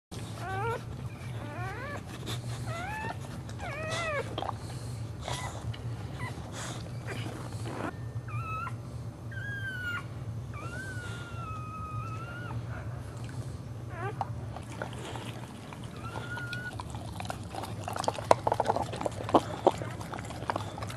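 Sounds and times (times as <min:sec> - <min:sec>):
steady low hum: 0:00.1 - 0:20.9
dog whining: 0:00.2 - 0:13.2, 0:13.8 - 0:20.9.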